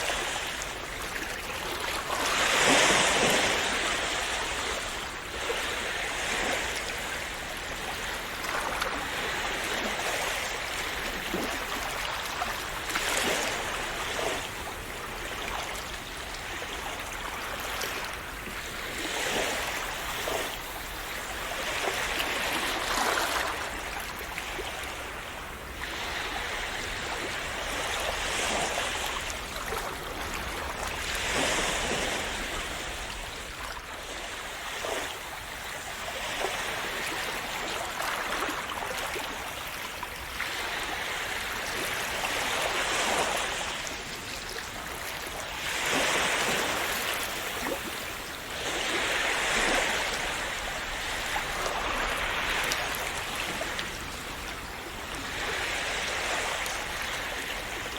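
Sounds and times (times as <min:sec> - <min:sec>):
low rumble of surf: 0:00.0 - 0:57.9
sea waves breaking: 0:00.0 - 0:57.9.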